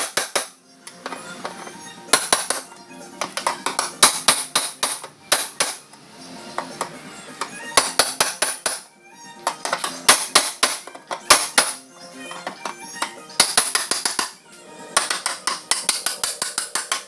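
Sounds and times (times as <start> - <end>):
hammer tapping on metal: 0.0 - 6.0, 6.6 - 14.4, 15.0 - 17.0
background music: 0.0 - 17.0.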